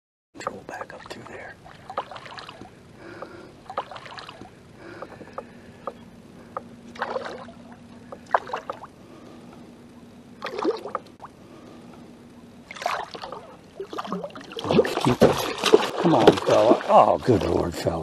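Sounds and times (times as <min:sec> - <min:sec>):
faint steady hum: 0:00.4 - 0:18.0
water splashing around kayak: 0:00.8 - 0:08.9, 0:10.4 - 0:11.3, 0:12.6 - 0:18.0.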